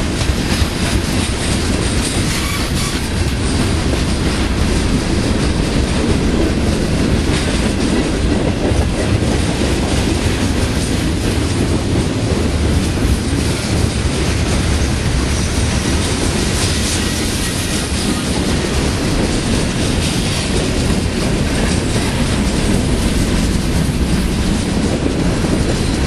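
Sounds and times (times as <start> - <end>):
clacks from train wheels: 0.0 - 26.0
steel wheels rumbling on rail: 0.0 - 26.0.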